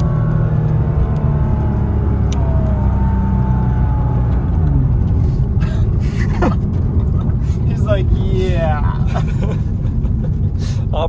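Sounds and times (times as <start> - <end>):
road noise: 0.0 - 11.0
sports car engine running: 0.0 - 11.0.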